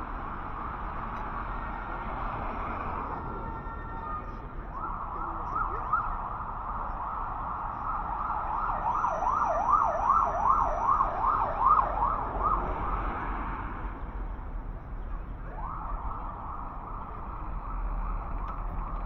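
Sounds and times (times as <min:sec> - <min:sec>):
emergency vehicle siren: 0:00.0 - 0:13.9, 0:15.2 - 0:19.0
street traffic rumble: 0:00.0 - 0:19.0.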